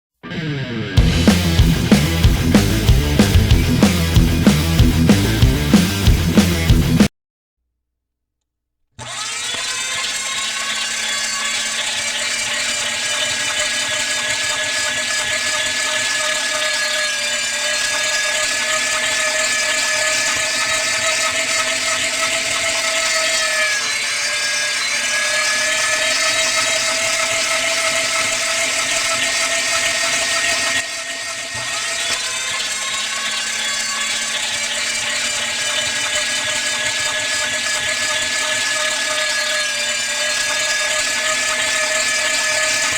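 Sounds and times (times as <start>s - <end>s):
power drill whining: 0.2s - 7.1s, 9.0s - 42.9s.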